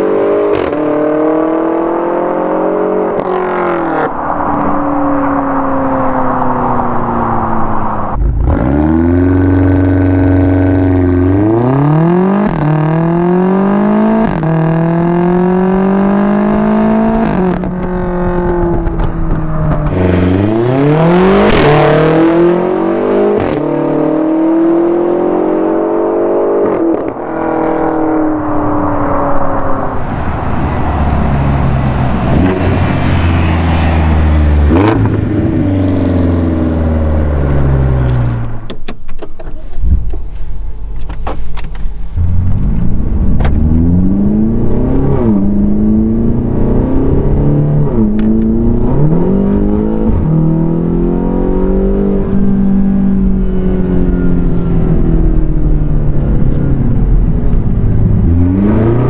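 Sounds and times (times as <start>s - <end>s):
car engine accelerating hard: 0.0s - 38.7s, 42.1s - 59.0s.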